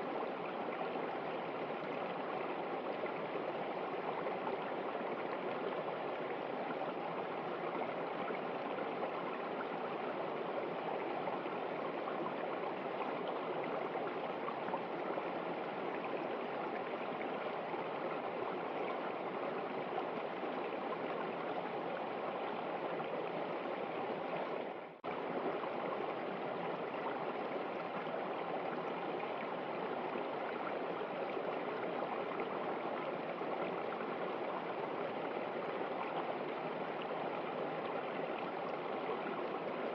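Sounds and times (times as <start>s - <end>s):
river water running: 0.0s - 39.9s.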